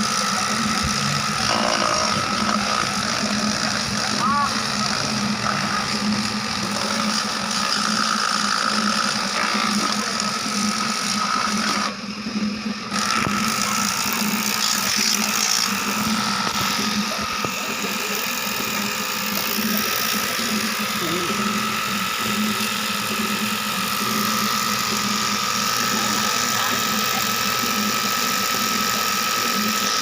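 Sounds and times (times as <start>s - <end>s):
motor-driven machine humming: 0.0s - 30.0s.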